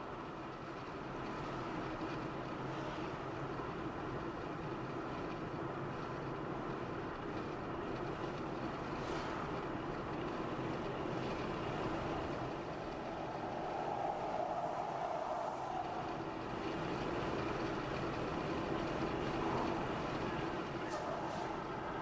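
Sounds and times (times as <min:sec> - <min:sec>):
car driving on highway: 0:00.0 - 0:22.0.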